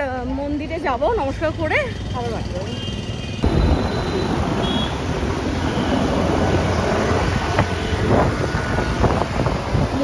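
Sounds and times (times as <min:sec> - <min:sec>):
engine and tyre rumble: 0:00.0 - 0:10.0.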